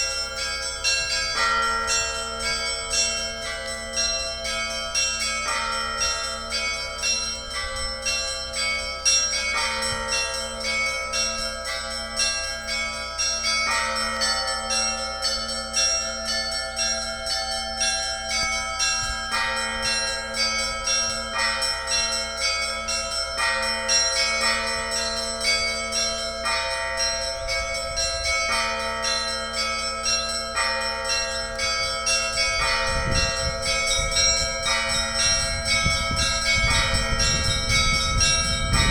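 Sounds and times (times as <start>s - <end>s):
low bell steady beat: 0.0s - 38.9s
small church bells ringing: 0.0s - 38.9s.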